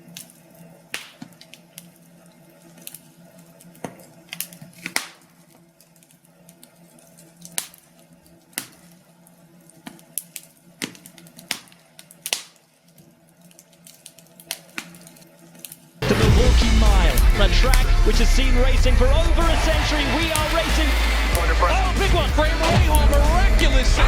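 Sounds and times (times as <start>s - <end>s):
log fire crackling: 0.0s - 24.0s.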